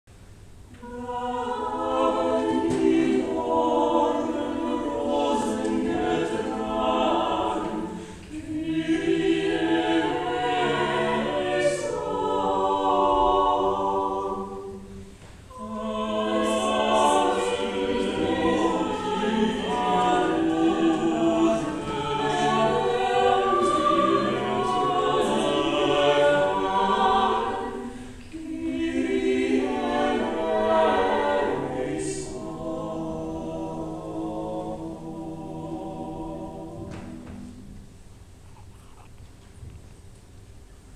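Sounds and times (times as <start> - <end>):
vocal quartet singing: 0.7 - 38.0.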